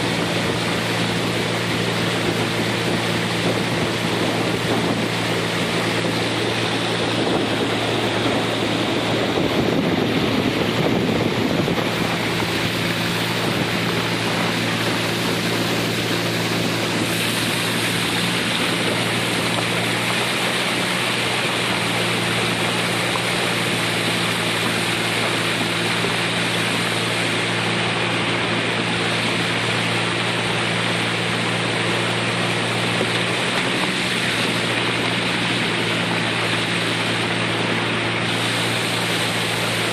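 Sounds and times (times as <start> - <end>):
boat motor running: 0.0 - 39.9
water rushing past hull: 0.0 - 39.9.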